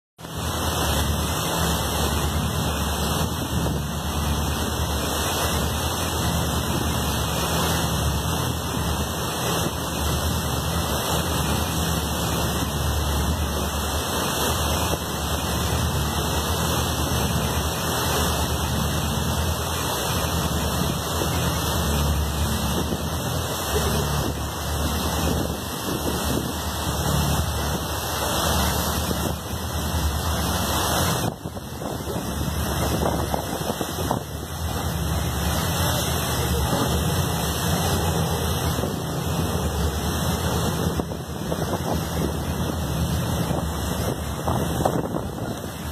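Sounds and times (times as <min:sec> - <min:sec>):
boat engine rumble: 0:00.2 - 0:45.9
water rushing: 0:00.2 - 0:45.9
wind: 0:00.2 - 0:45.9.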